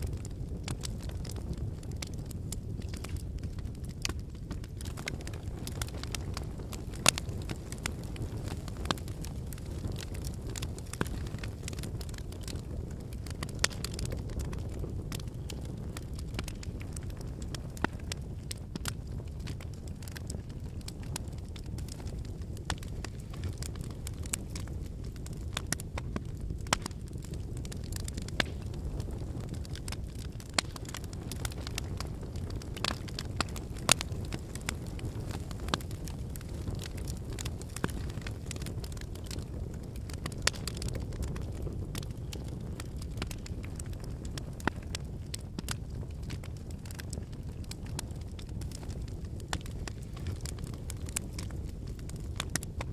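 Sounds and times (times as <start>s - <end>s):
burning logs crackling and popping: 0.0s - 52.9s
rush of campfire flames: 0.0s - 52.9s.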